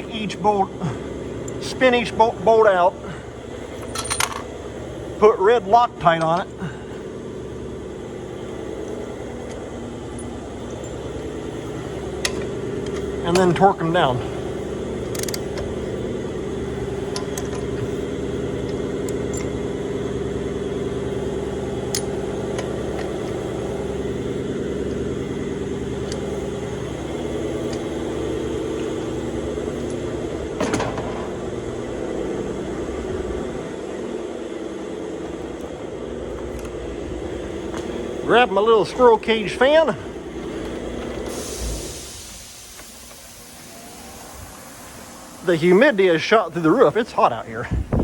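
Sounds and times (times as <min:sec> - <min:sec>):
air compressor motor humming: 0:00.0 - 0:48.0.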